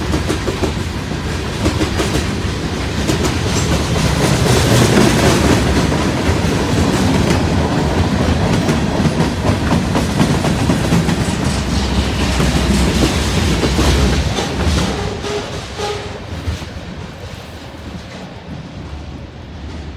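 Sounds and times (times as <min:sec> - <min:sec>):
train wheels clacking over rail joints: 0:00.0 - 0:19.9.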